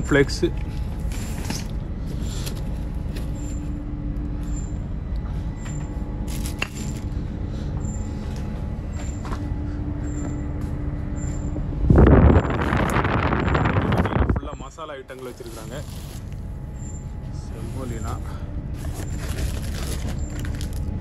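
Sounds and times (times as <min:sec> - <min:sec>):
droning tone: 0:00.0 - 0:21.0
low rumble of ship machinery: 0:00.0 - 0:21.0.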